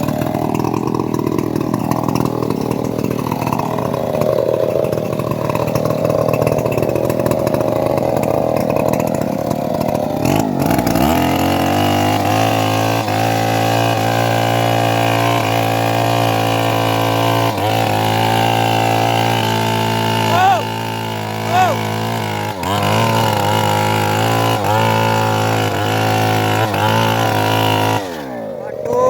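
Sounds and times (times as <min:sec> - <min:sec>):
blade cutting a log: 0:00.0 - 0:29.0
sawmill engine running under load: 0:00.0 - 0:29.0.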